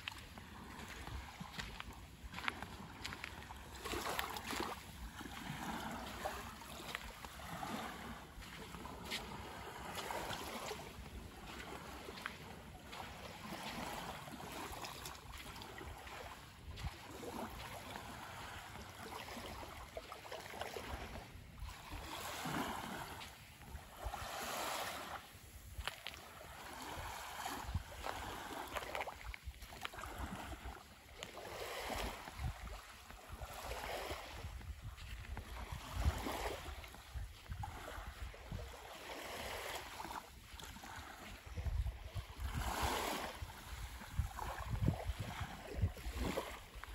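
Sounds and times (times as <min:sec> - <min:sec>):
wind rumble on microphone: 0:00.0 - 0:20.0, 0:20.7 - 0:46.9
small waves lapping on sand: 0:00.0 - 0:46.9.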